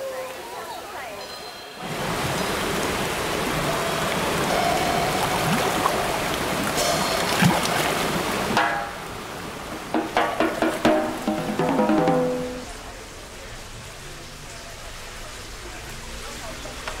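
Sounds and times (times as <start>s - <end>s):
creek water rushing: 1.8s - 17.0s.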